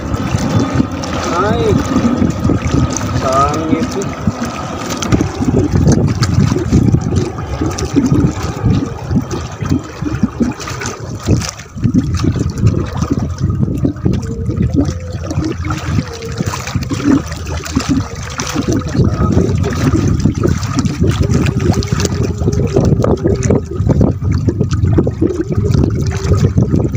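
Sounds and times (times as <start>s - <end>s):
water lapping against boat hull: 0.0s - 26.9s.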